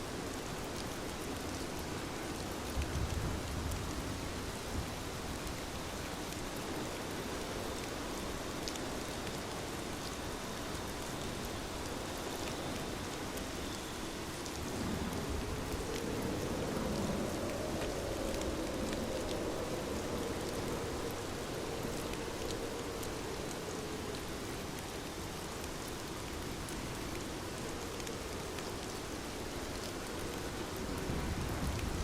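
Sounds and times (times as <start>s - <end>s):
rain on a window: 0.0s - 32.0s.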